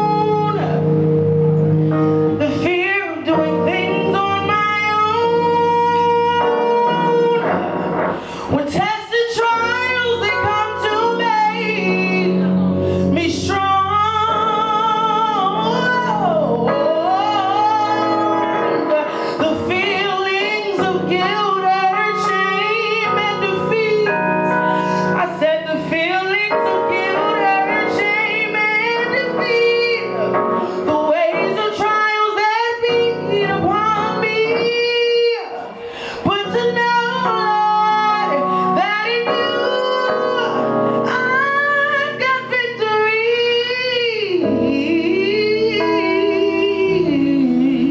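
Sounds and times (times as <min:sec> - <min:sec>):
woman singing: 0:00.0 - 0:01.0, 0:02.3 - 0:07.8, 0:08.4 - 0:47.9
instrumental accompaniment: 0:00.0 - 0:47.9.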